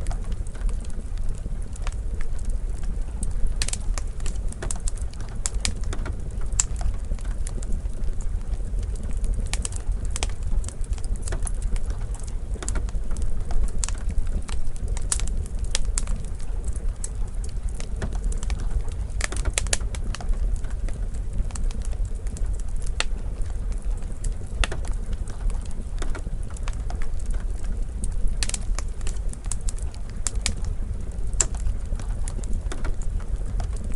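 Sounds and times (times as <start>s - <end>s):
fireplace fire crackling: 0.0s - 33.9s.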